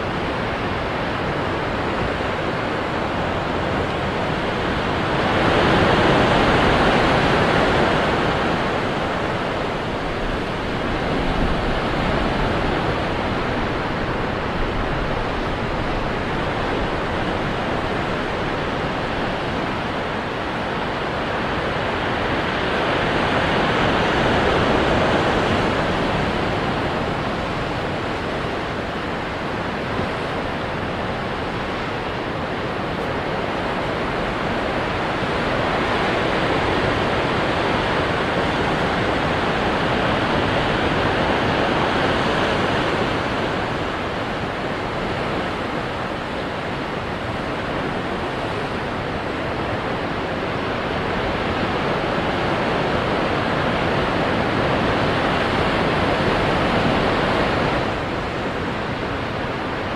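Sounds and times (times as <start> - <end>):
ocean surf washing against rocks: 0.0 - 59.9.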